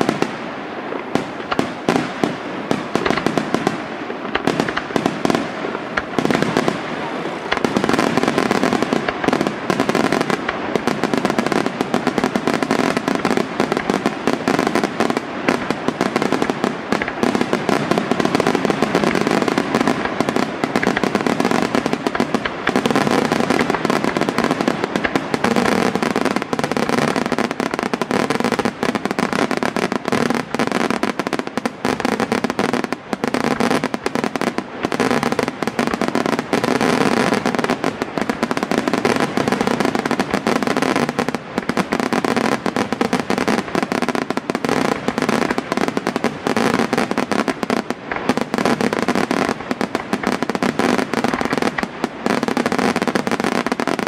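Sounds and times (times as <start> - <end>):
firework shells bursting: 1.2 - 6.9, 7.5 - 54.0.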